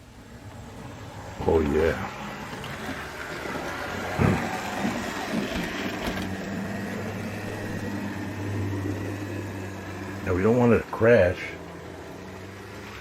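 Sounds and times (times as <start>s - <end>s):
model train electric hum: 0.0s - 13.0s.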